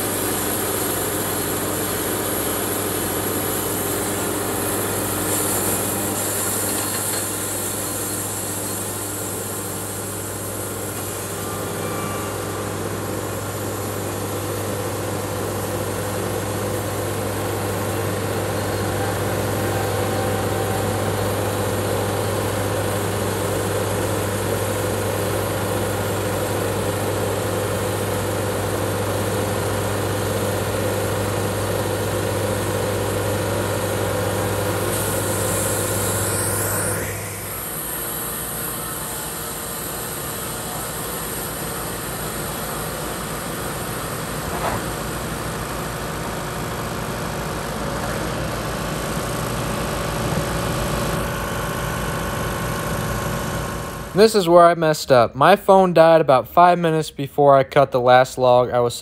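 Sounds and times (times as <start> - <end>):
band sawmill cutting log: 0.0 - 54.2.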